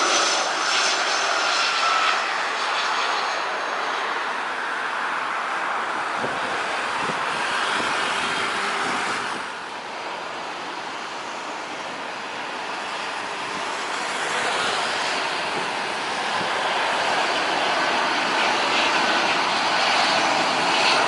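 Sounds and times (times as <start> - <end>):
jet engine rushing: 0.0 - 21.0.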